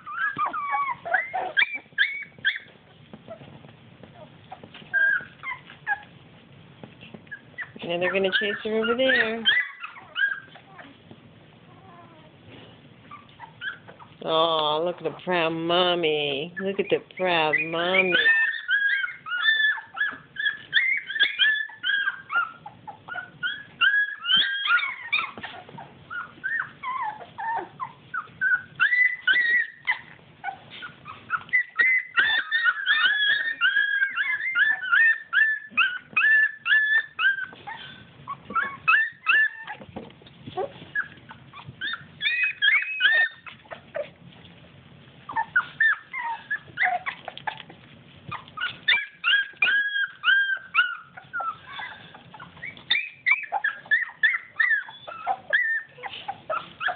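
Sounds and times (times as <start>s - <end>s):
puppies whimpering and squealing: 0.0s - 56.9s.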